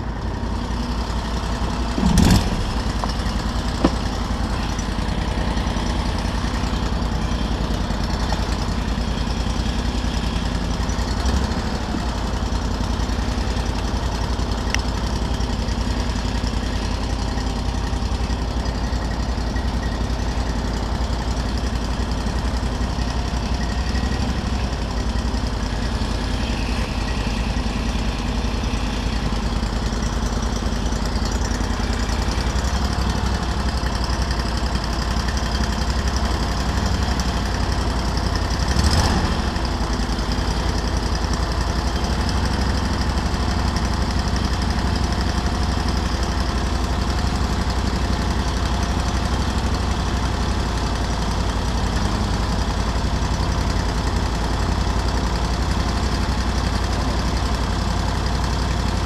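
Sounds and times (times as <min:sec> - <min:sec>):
buggy engine idling: 0:00.0 - 0:59.0.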